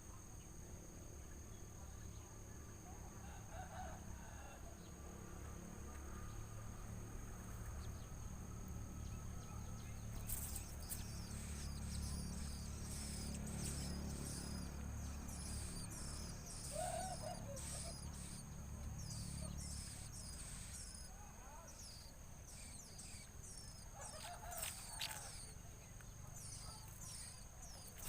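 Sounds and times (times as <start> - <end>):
insects droning: 0.0 - 28.0
nestling birds cheeping: 1.2 - 28.0.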